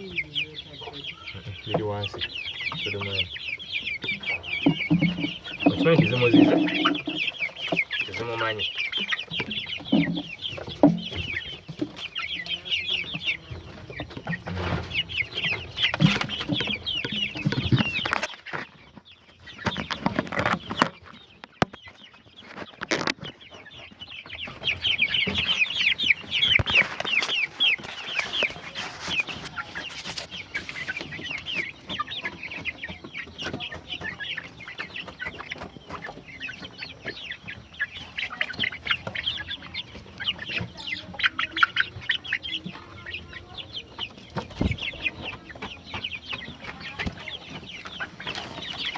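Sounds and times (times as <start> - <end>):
chickens calling: 0.0 - 48.9.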